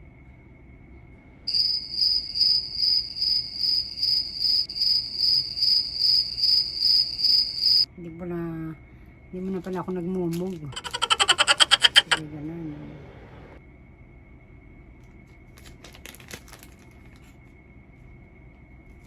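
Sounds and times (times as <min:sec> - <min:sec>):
crickets chirping: 0:00.0 - 0:12.2, 0:13.6 - 0:15.5, 0:16.8 - 0:19.0.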